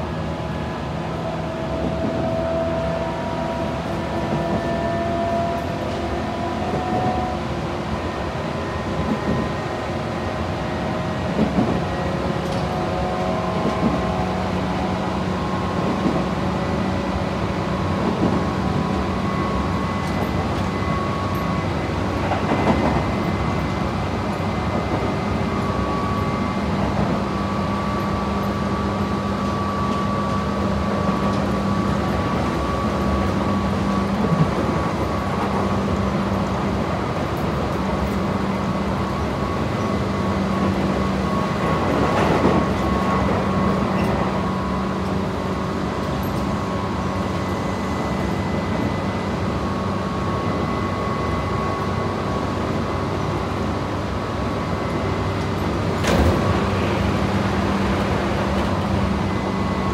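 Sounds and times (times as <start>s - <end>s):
passing train rush: 0.0s - 59.9s
train wheels rumbling on rail: 0.0s - 59.9s.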